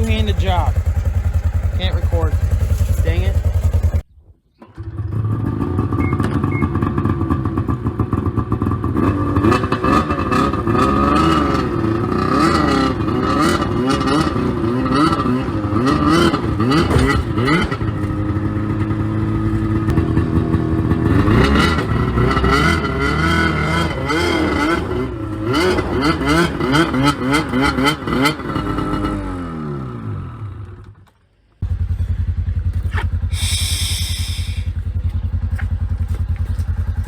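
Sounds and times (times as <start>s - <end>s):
vehicle engine revving: 0.0s - 4.1s, 4.8s - 30.8s, 31.6s - 37.0s.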